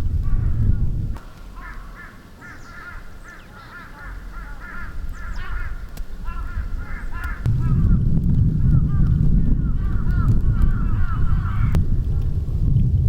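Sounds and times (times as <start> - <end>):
flock of birds calling: 0.0 - 8.0, 8.6 - 12.4.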